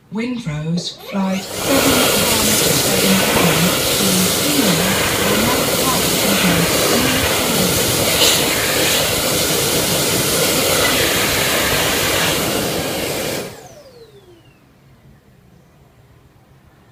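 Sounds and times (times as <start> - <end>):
hand dryer blowing air: 0.9 - 14.5
motor whine spinning down: 1.0 - 14.7.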